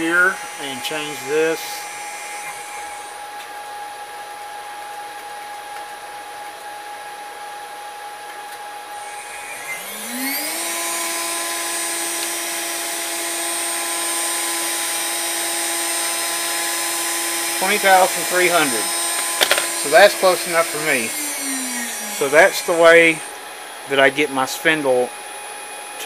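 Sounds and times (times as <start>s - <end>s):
router spindle whine: 0.0s - 5.0s, 8.8s - 26.0s.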